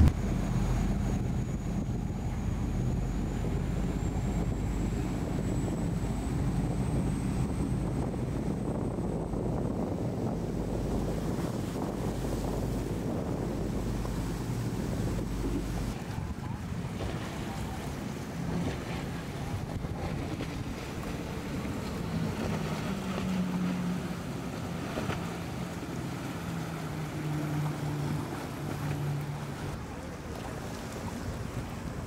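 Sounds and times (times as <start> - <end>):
water rushing and spray: 0.0 - 5.3, 10.0 - 32.0
wind buffeting microphone: 0.0 - 29.8
outboard engines droning: 0.0 - 32.0.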